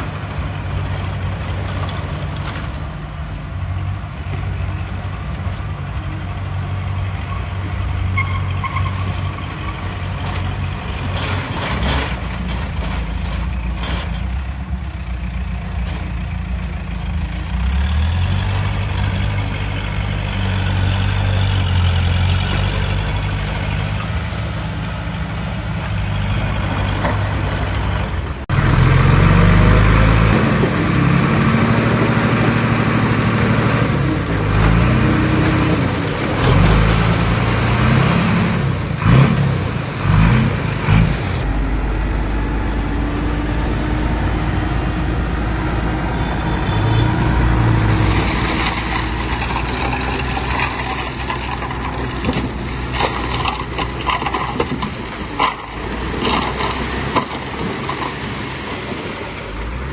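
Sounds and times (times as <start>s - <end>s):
diesel machinery engine revving: 0.0s - 59.9s.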